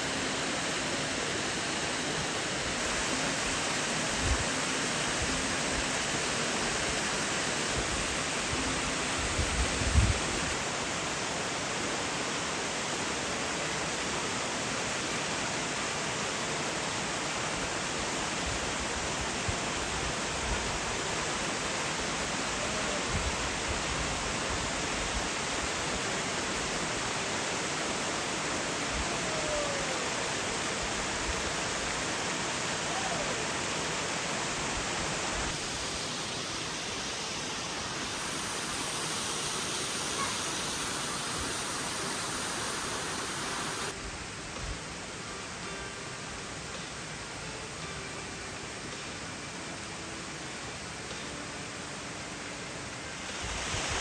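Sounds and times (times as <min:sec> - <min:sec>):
waterfall rushing: 0:00.0 - 0:44.0, 0:51.4 - 0:54.0.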